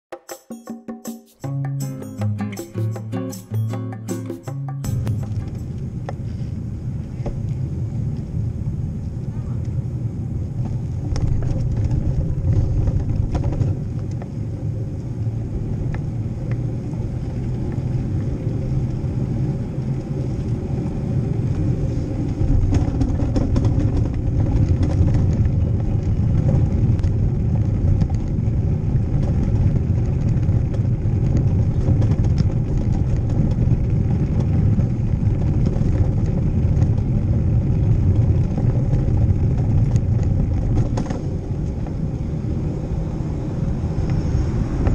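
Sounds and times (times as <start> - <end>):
wind and tyres rumbling: 5.2 - 44.9.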